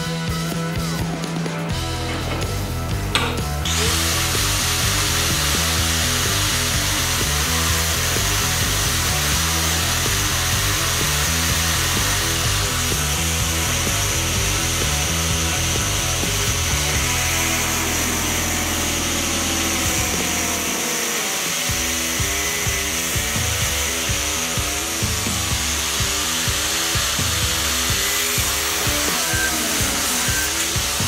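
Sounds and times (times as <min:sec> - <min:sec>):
background music: 0:00.0 - 0:31.0
angle grinder cutting steel: 0:01.6 - 0:31.0.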